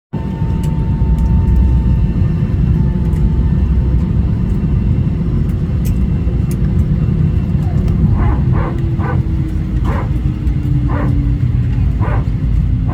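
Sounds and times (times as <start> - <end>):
airplane cabin rumble: 0.2 - 12.9.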